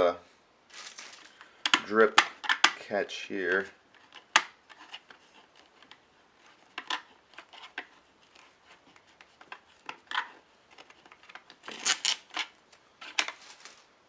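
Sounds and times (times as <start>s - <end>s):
plastic parts clicking: 1.3s - 2.8s, 3.5s - 13.8s.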